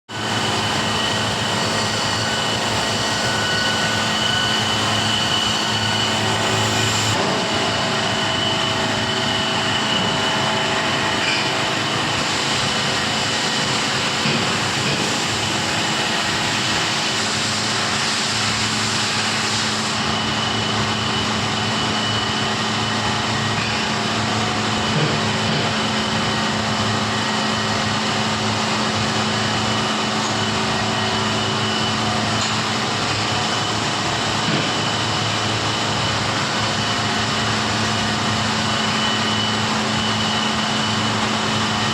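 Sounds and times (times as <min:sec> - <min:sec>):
high machine whine: 0:00.0 - 0:41.9
industrial machinery hissing: 0:00.1 - 0:41.9.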